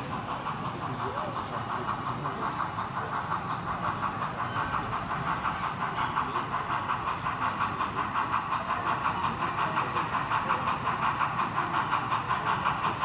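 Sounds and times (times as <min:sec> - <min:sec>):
steam locomotive exhaust chuff: 0:00.0 - 0:13.0.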